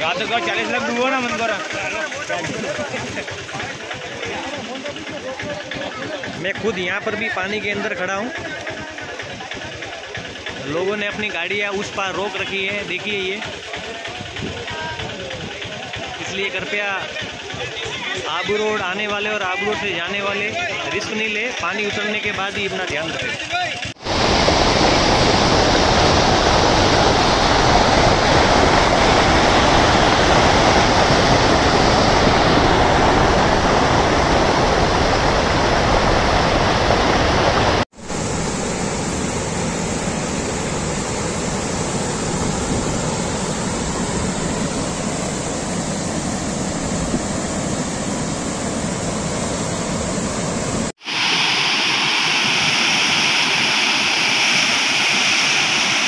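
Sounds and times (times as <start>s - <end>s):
floodwater rushing over spillways: 0.0s - 56.0s.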